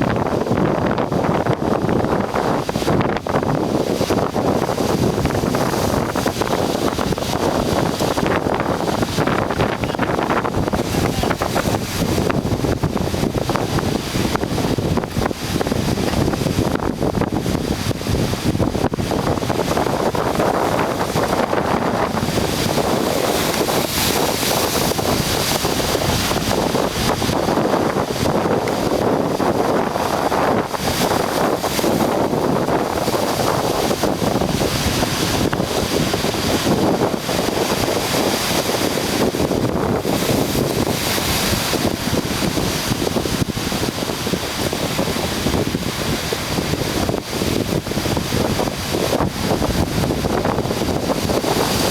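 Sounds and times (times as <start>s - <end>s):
surf on rocky shore: 0.0s - 51.9s
wind buffeting microphone: 0.0s - 51.9s.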